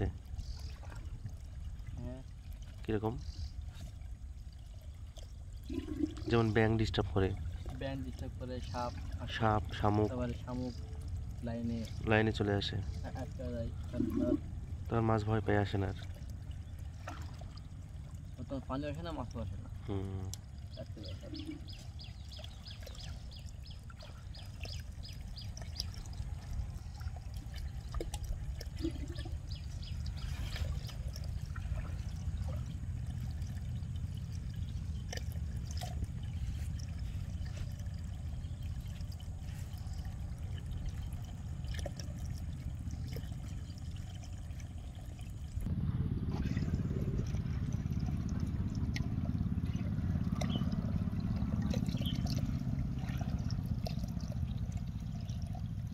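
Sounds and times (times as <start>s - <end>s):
small splashes: 0.0s - 55.9s
water pouring and trickling: 0.0s - 55.9s.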